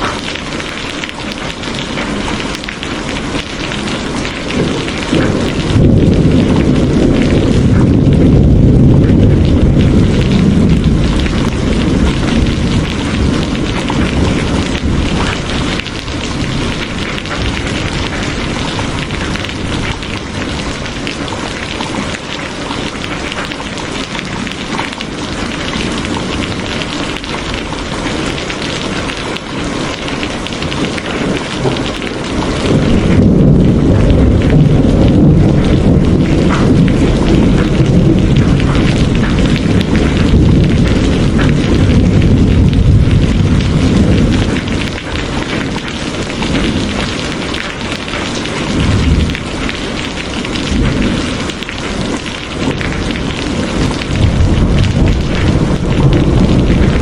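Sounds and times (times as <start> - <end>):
rain pouring: 0.0 - 57.0
thunder rumbling: 0.0 - 57.0.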